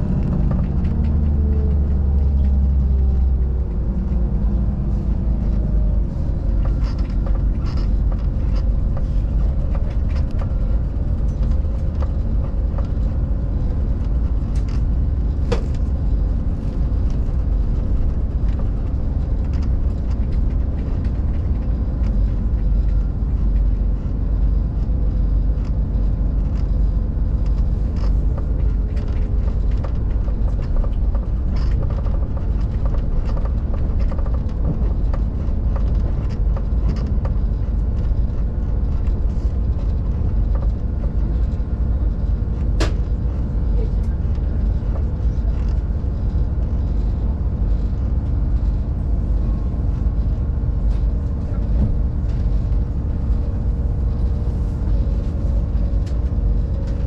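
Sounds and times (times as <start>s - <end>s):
train rumbling on track: 0.0s - 57.0s.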